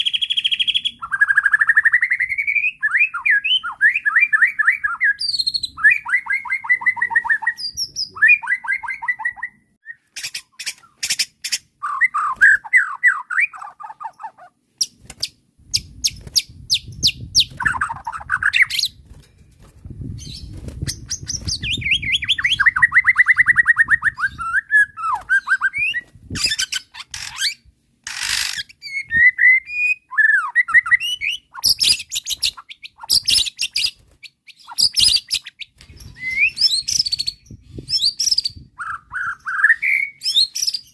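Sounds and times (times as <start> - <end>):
songbird singing varied phrases: 0.0 - 15.0, 20.2 - 40.9.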